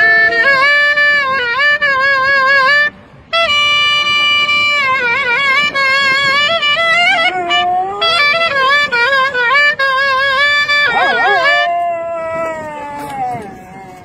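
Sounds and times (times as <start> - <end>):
clarinet playing slow melody: 0.0 - 14.0.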